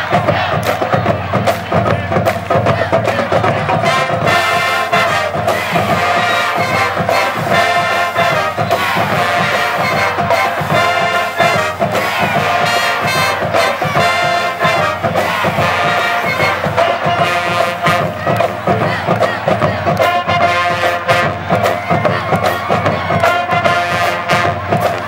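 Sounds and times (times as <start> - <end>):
drums beating: 0.0 - 25.0
brass and saxophones playing: 2.1 - 25.0.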